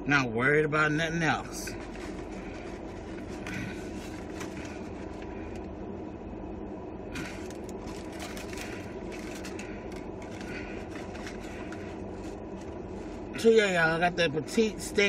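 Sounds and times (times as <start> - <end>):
low hum in a car cabin: 0.0 - 15.0.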